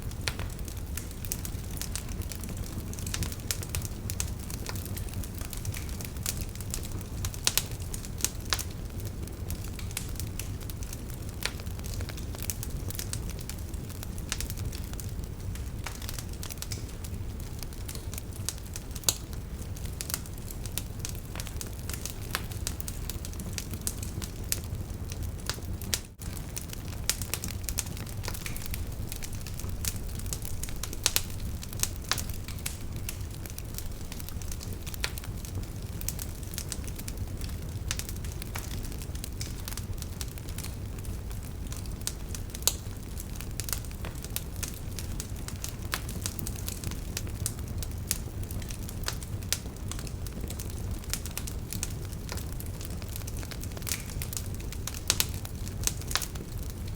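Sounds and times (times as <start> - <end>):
campfire flame rumble: 0.0 - 56.9
fire crackling and popping: 0.0 - 56.9.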